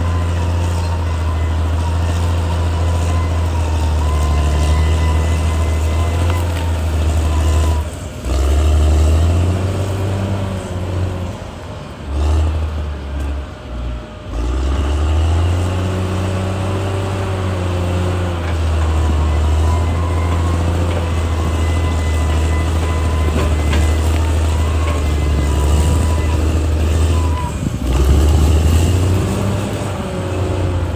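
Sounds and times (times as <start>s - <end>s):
bulldozer diesel engine drone: 0.0s - 30.9s.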